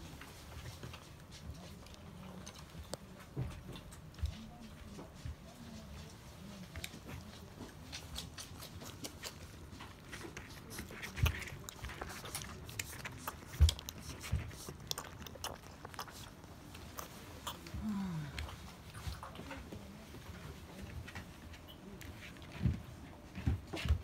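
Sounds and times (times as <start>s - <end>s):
puppies suckling wet smacking: 0.0s - 24.0s.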